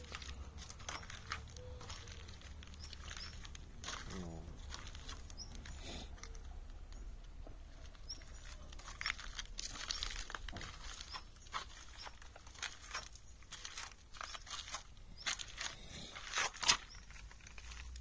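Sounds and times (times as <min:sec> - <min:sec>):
footsteps crunching on gravel: 0:00.0 - 0:06.4, 0:07.4 - 0:18.0.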